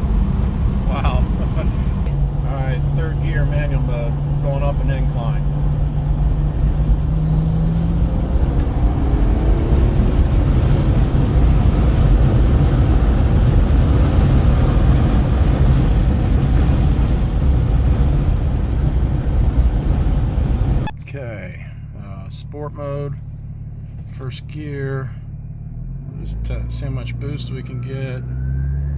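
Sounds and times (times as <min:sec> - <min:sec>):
diesel car engine under load: 0:00.0 - 0:28.9.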